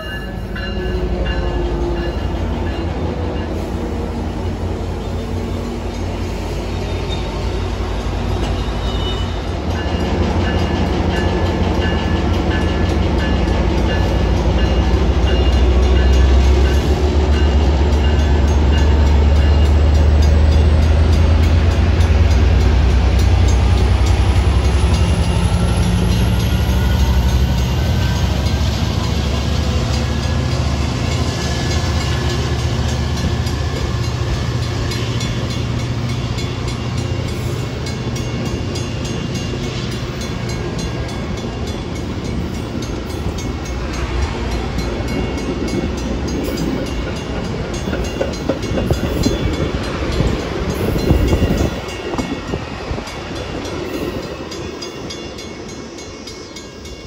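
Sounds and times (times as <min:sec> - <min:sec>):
diesel locomotive rumble: 0:00.0 - 0:56.1
crossing bell ringing: 0:00.0 - 0:57.0
train wheels clattering on rails: 0:00.0 - 0:57.0.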